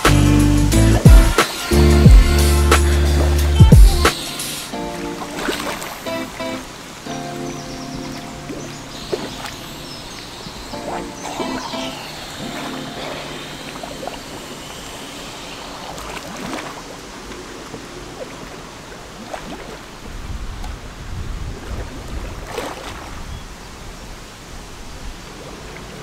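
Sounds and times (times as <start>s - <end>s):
lake water splashing: 0.1s - 26.0s.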